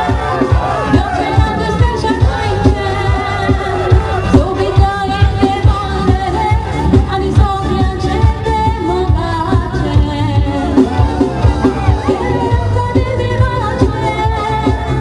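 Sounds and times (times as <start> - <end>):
amplified musical accompaniment: 0.0 - 15.0
steady drum beat: 0.0 - 15.0
girl singing into a microphone: 0.9 - 10.8, 12.7 - 15.0.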